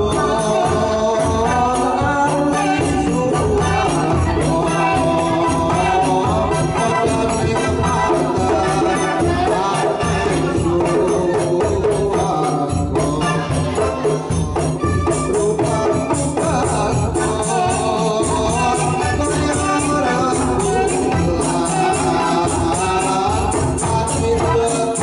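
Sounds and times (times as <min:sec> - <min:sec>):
drums beating: 0:00.0 - 0:25.0
jingling percussion: 0:00.0 - 0:25.0
person singing: 0:00.0 - 0:25.0.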